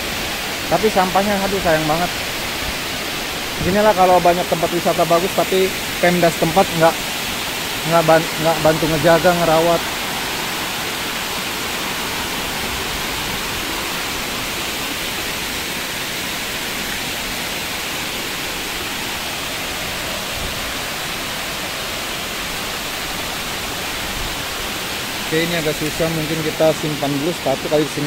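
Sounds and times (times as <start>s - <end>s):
waterfall rushing water: 0.0s - 28.0s.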